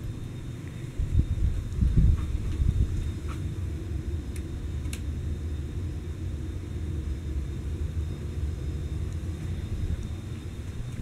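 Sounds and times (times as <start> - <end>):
ceiling fan running: 0.0 - 11.0.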